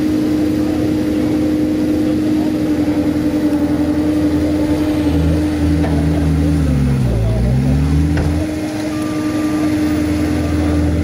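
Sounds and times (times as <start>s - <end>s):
lower hum: 0.0s - 11.0s
skid steer engine running: 0.0s - 11.0s.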